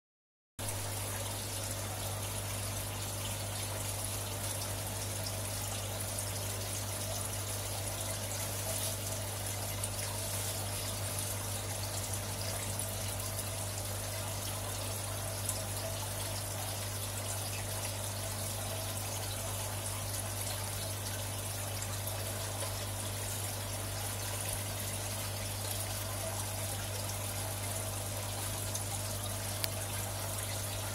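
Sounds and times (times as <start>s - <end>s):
pump hum: 0.6s - 30.9s
water trickling and bubbling: 0.6s - 30.9s.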